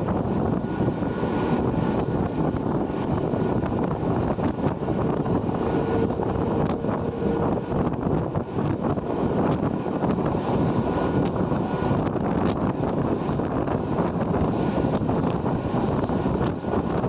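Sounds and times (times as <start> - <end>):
train passing rumble: 0.0 - 17.0
wind buffeting microphone: 0.0 - 17.0.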